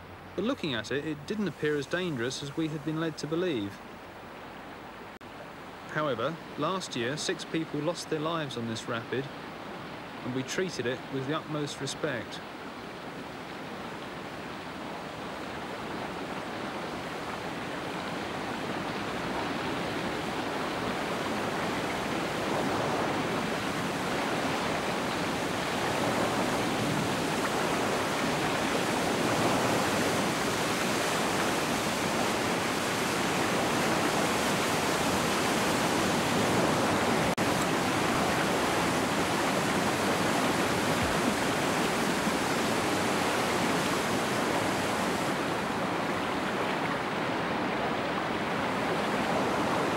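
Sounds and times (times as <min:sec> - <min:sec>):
whitewater rushing: 0:00.0 - 0:49.9.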